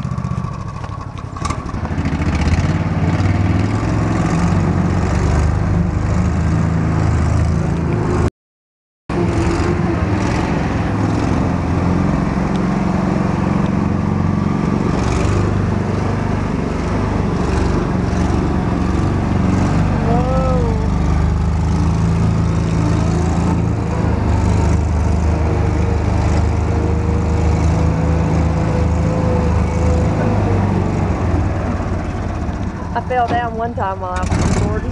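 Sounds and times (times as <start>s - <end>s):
vehicle engine running: 0.0s - 8.3s, 9.1s - 34.9s.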